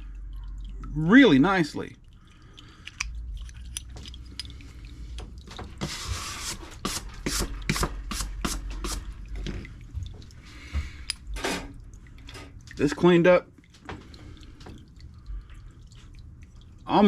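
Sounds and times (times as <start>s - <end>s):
liquid dripping: 0.0s - 17.0s.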